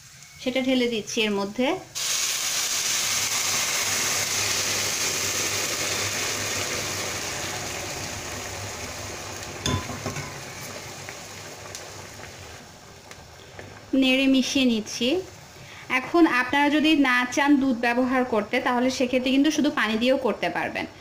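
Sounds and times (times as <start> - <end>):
liquid sizzling in hot pan: 0.0 - 20.3
liquid boiling: 1.9 - 20.4.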